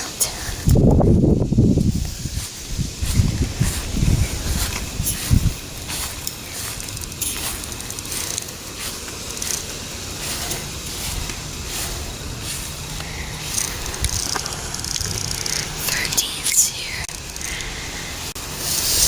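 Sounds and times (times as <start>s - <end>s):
wind on microphone: 0.0s - 15.8s
air conditioner unit running: 0.0s - 19.0s.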